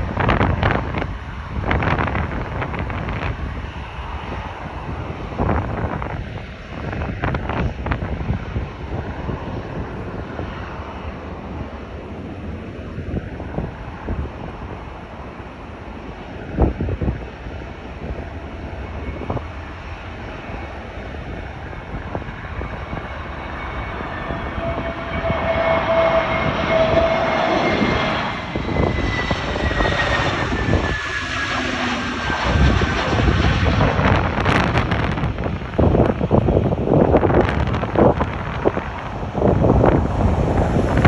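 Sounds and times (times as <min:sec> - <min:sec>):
jet plane flying past: 0:00.0 - 0:41.0
wind buffeting microphone: 0:00.0 - 0:41.0.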